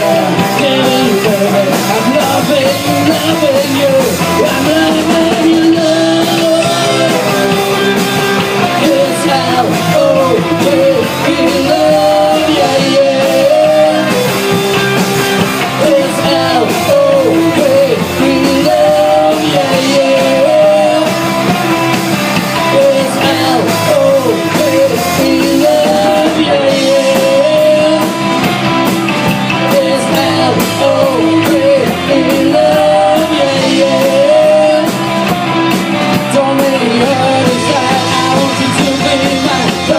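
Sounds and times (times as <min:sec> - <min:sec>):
bass guitar: 0:00.0 - 0:39.9
drum kit: 0:00.0 - 0:39.9
electric guitars: 0:00.0 - 0:39.9
wavering lead melody: 0:00.0 - 0:39.9.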